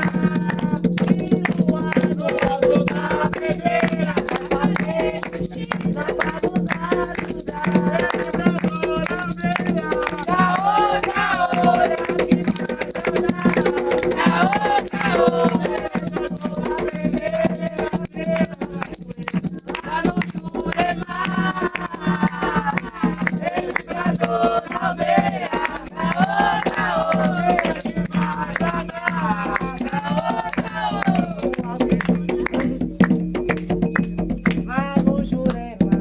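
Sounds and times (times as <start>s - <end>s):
voices singing a chant: 0.0s - 33.1s
rattles shaken in rhythm: 0.0s - 36.0s.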